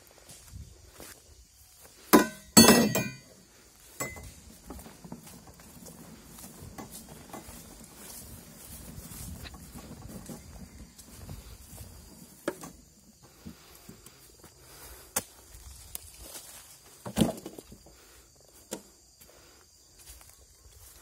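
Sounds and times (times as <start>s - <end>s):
footsteps through grass and leaves: 0.0s - 2.2s, 3.0s - 21.0s.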